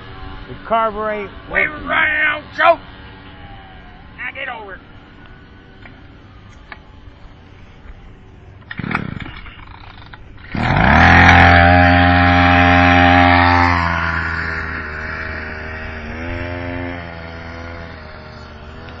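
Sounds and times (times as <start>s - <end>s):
scooter engine revving: 0.0s - 7.5s, 8.6s - 19.0s.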